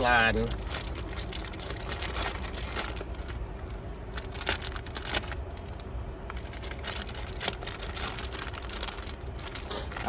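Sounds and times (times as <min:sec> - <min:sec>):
food packaging crackling: 0:00.0 - 0:10.0.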